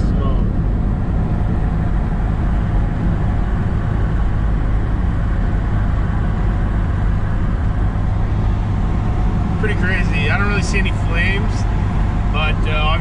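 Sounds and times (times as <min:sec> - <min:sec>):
van engine and road noise: 0:00.0 - 0:13.0.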